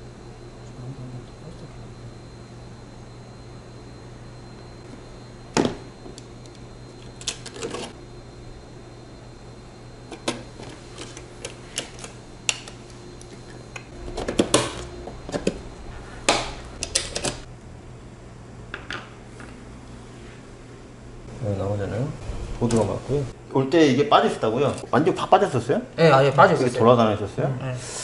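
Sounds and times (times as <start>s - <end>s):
low steady hum: 0.0s - 27.6s.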